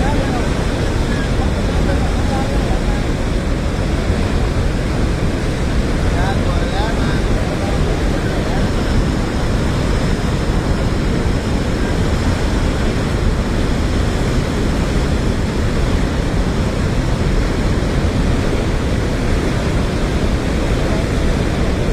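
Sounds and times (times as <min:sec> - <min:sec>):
floodwater rushing: 0:00.0 - 0:21.9.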